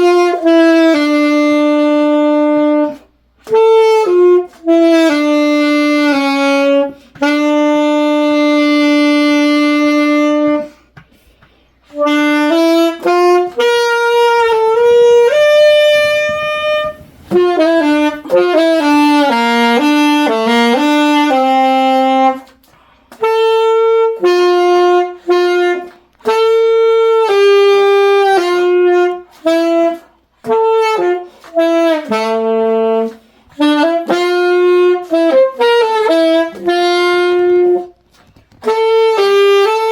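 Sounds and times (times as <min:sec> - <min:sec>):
saxophone playing slow melody: 0:00.0 - 0:39.9.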